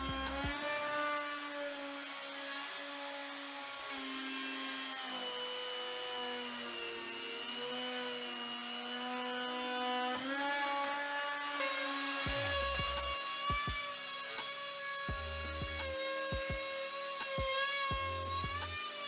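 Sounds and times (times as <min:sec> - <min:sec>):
router motor whine: 0:00.0 - 0:19.0.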